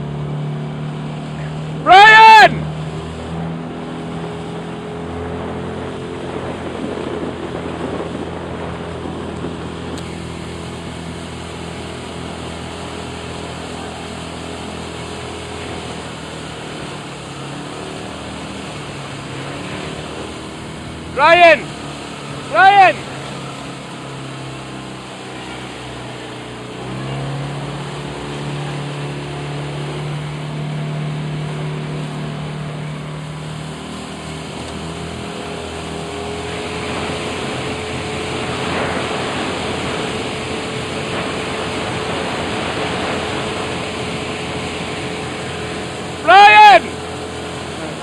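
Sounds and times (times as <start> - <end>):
hiss of water and wind: 0.0 - 48.0
outboard motor running: 0.0 - 48.0.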